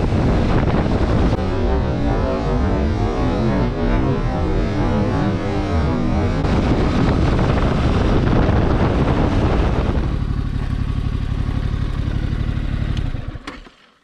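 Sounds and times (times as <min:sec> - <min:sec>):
wind rush: 0:00.0 - 0:12.1
motorcycle engine running: 0:00.0 - 0:13.9.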